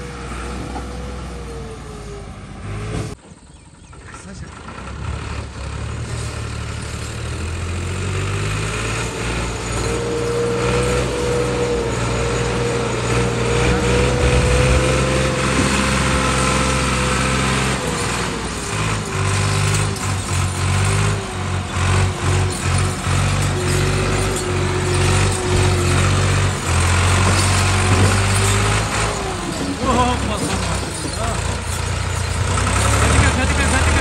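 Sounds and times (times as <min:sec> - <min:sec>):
engine whine: 0:00.0 - 0:34.0
tractor diesel engine straining: 0:00.0 - 0:34.0.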